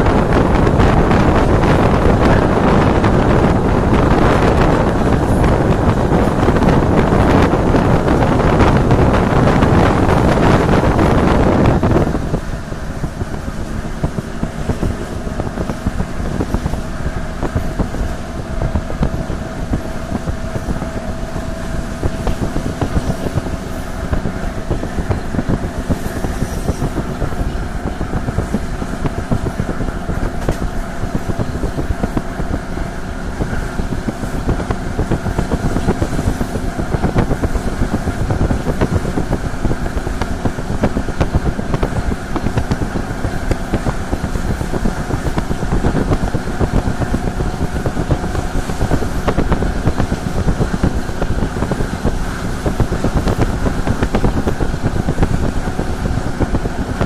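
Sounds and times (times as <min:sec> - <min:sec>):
steady hum: 0:00.0 - 0:57.0
train low rumble: 0:00.0 - 0:57.0
wind buffeting microphone: 0:00.0 - 0:57.0.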